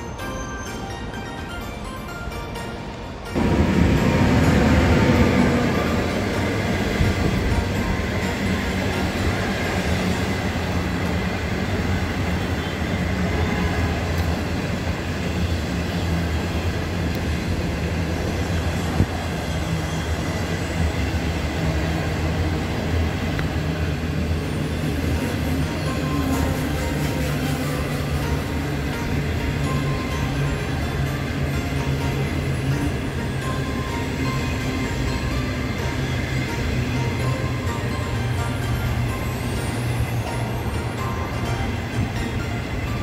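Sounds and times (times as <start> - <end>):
passenger train rumbling by: 0.0 - 43.0.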